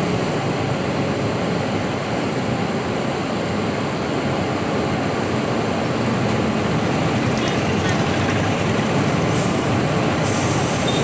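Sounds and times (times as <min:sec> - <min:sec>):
passenger train rushing past: 0:00.0 - 0:11.0.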